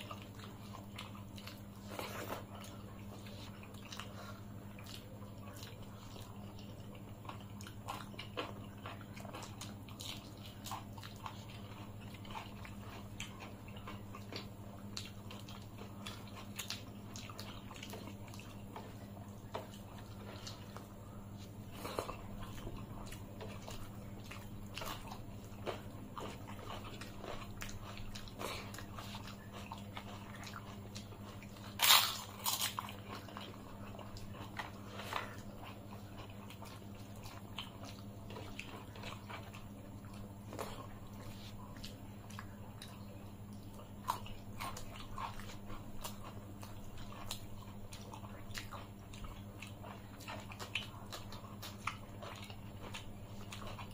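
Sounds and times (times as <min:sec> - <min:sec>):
chewing: 0:00.0 - 0:53.9
crunching fried papad: 0:00.0 - 0:53.9
steady low hum: 0:00.0 - 0:53.9.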